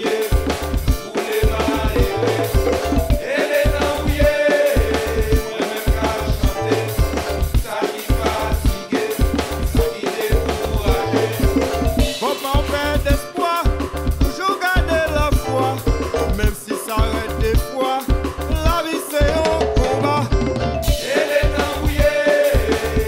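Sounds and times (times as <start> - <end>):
song with singing over bass beat: 0.0 - 23.0.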